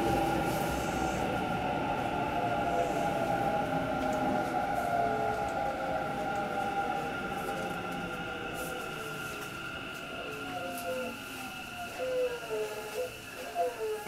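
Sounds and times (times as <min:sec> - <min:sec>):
electric train motor whine: 0:00.0 - 0:13.9
wheels rumbling on rail: 0:00.0 - 0:14.0.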